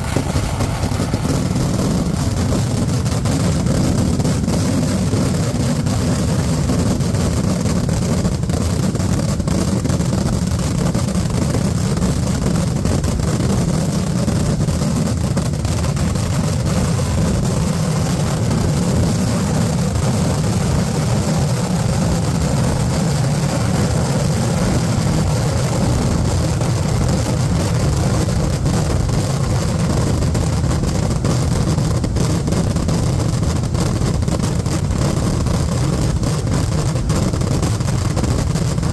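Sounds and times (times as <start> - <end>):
fireworks bursts rumbling: 0.0 - 38.9.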